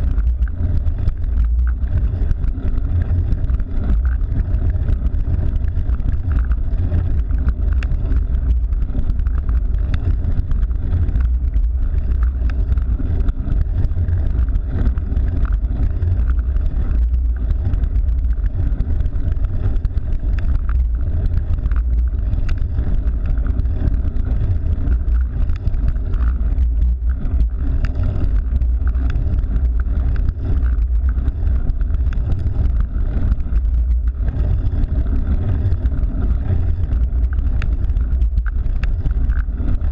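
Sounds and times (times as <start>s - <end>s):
road and tyre noise: 0.0s - 39.9s
wind buffeting microphone: 0.0s - 39.9s.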